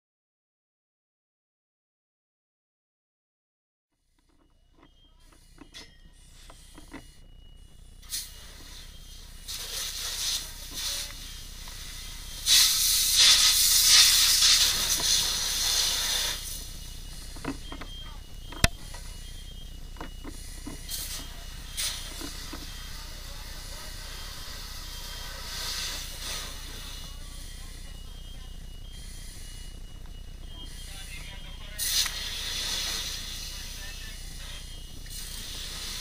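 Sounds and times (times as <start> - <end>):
low steady rumble: 4.1 - 36.0
fire hose spraying: 6.1 - 36.0.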